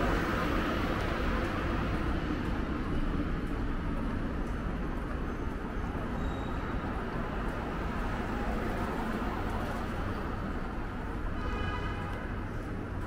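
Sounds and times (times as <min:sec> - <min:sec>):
street traffic rumble and hiss: 0:00.0 - 0:13.0.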